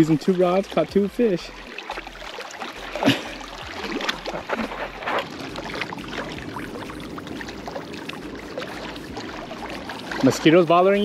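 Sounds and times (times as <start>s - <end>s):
small waves lapping on rocks: 0.0s - 11.0s.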